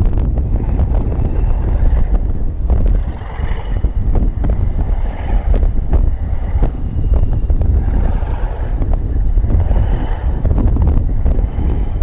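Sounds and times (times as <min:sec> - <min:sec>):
low vehicle rumble: 0:00.0 - 0:12.0
wind buffeting microphone: 0:00.0 - 0:12.0.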